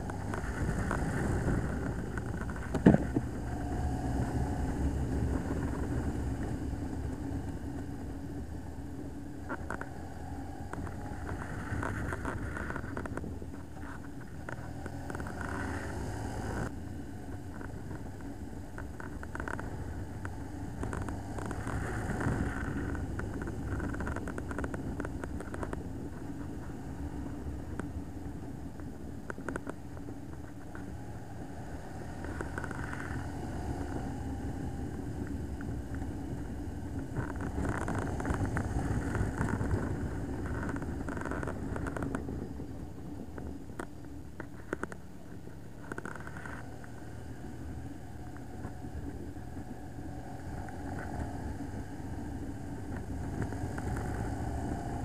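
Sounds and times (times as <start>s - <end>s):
motorcycle engine drone: 0.0s - 55.0s
wind noise: 0.0s - 55.0s.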